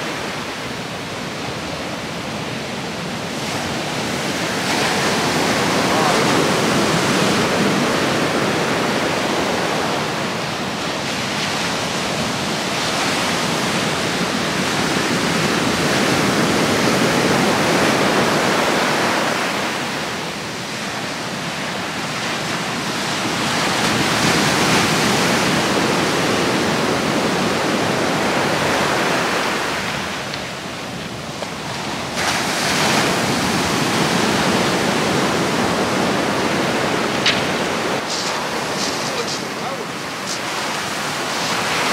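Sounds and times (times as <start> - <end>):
waves breaking on beach: 0.0 - 41.9.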